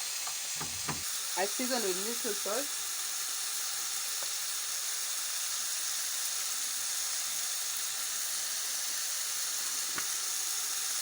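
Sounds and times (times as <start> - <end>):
chicken and onions sizzling: 0.0 - 11.0.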